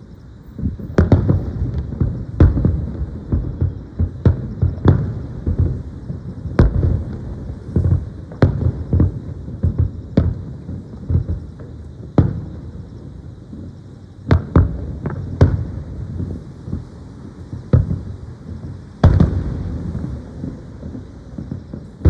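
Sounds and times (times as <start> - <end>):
firework bangs: 0.5 - 22.0.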